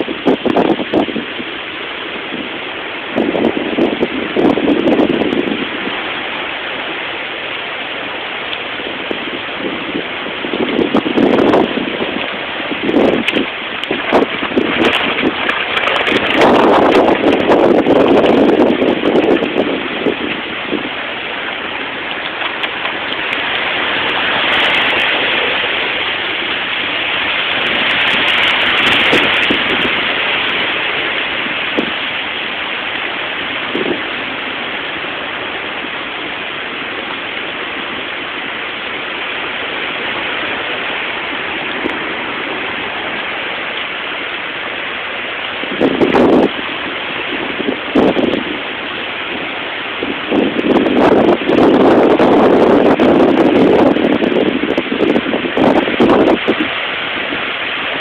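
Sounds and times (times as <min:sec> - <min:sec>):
wind and heavy rain rushing: 0:00.0 - 0:58.0
wind buffeting microphone: 0:00.0 - 0:58.0.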